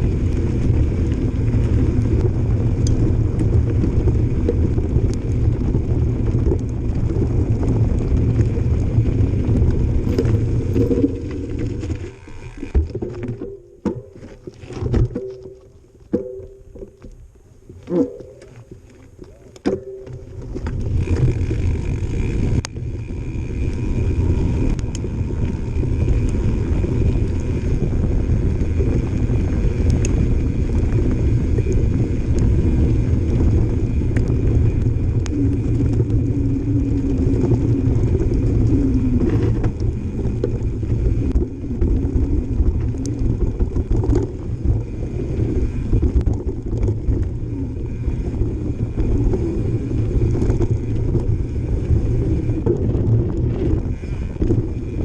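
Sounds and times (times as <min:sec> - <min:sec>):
bicycle freehub buzzing: 0:00.0 - 0:55.0
bike tyres crunching over dirt: 0:00.0 - 0:55.0
wind rumble on microphone: 0:00.0 - 0:55.0.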